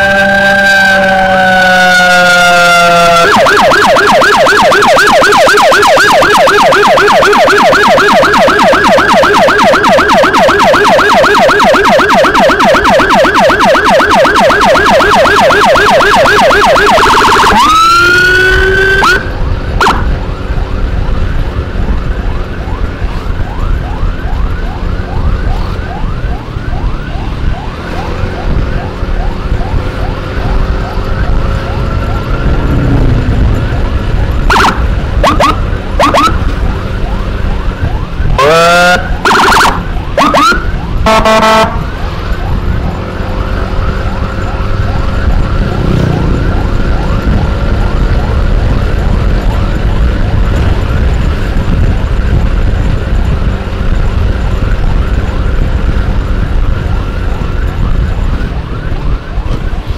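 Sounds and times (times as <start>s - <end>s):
electronic siren yelping: 0.0s - 59.9s
faint siren yelping: 0.0s - 59.9s
motorcycle engine and road rumble: 0.0s - 59.9s.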